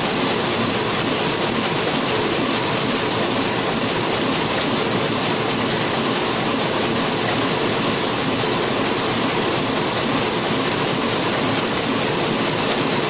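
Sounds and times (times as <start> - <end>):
printing press running: 0.0 - 13.0.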